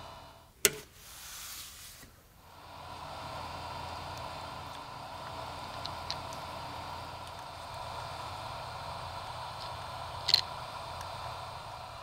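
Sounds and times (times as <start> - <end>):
hiss: 1.0 - 12.0.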